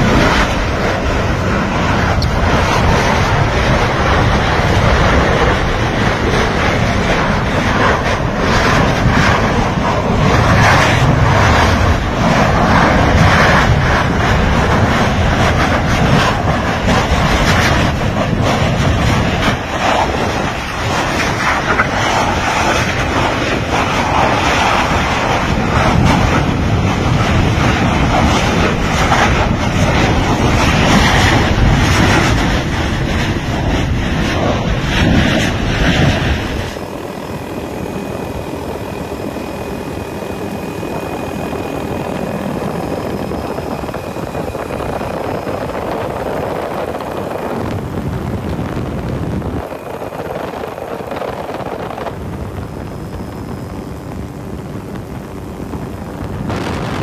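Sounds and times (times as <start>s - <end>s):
roar of lava fountaining: 0.0s - 52.6s.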